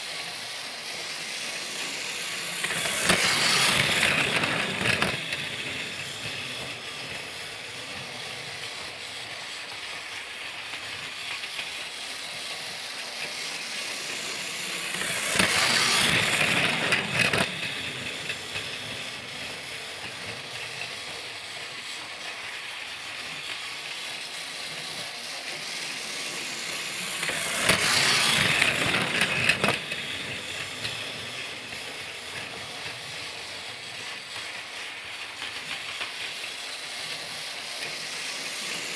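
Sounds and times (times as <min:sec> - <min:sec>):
toy train motor whir and rattle: 0:00.0 - 0:38.9.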